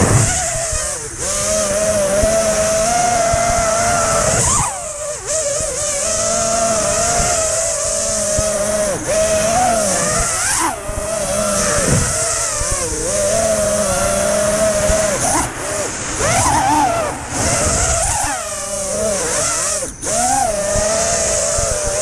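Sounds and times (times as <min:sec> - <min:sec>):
drone motors whining: 0:00.0 - 0:22.0
propeller wash and wind hiss: 0:00.0 - 0:22.0.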